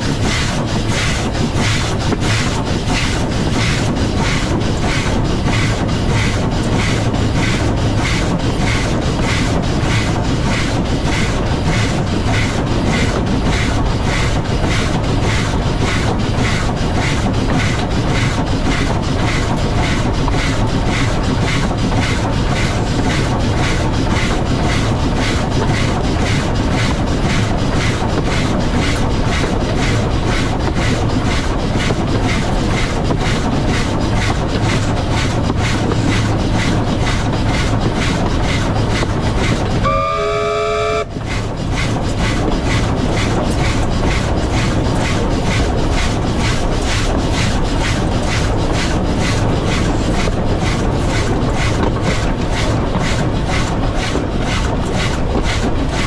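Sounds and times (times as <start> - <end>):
steam locomotive chuffing: 0.0 - 56.0
wheels on rail: 0.0 - 56.0.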